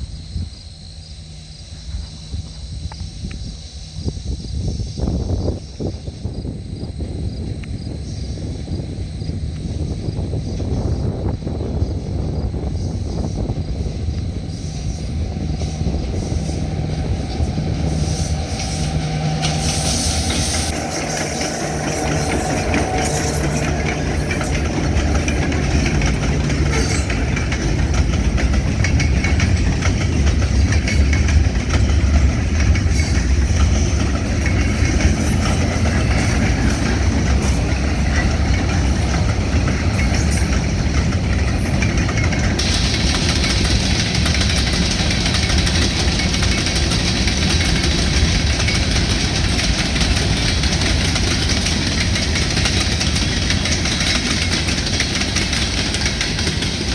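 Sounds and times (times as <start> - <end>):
train wheels clicking on rail joints: 0.0 - 3.9, 9.5 - 56.9
diesel locomotive engine: 0.0 - 56.9.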